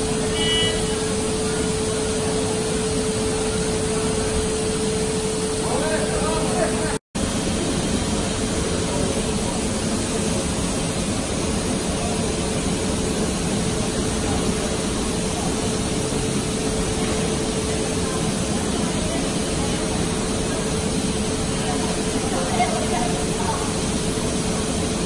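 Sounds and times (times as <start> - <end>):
dense machine noise: 0.0 - 25.0.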